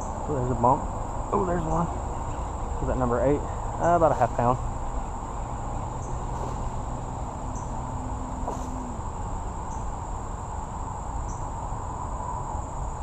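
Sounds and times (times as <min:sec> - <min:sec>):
insects trilling: 0:00.0 - 0:13.0
low rushing noise: 0:00.0 - 0:13.0.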